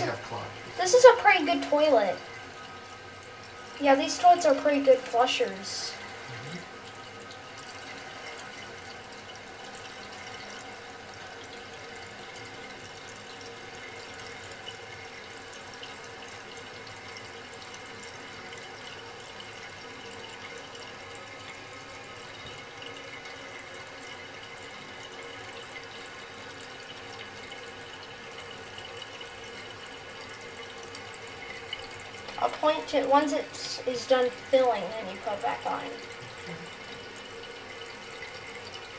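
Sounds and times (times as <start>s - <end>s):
toilet tank refilling hiss: 0.0s - 38.9s.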